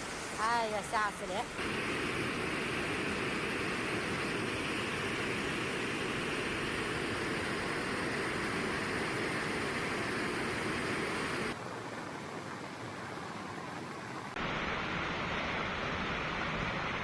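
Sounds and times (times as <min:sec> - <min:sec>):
floodwater rushing: 0:01.6 - 0:17.0.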